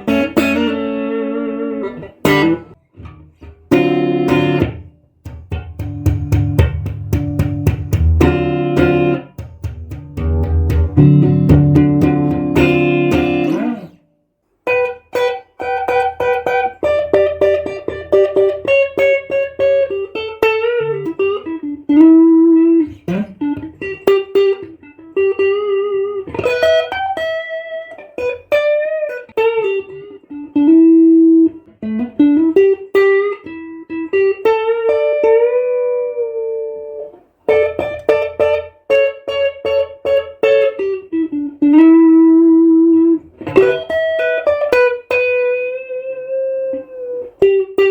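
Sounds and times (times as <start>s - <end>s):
electric guitar melody with bends: 0.0s - 47.9s.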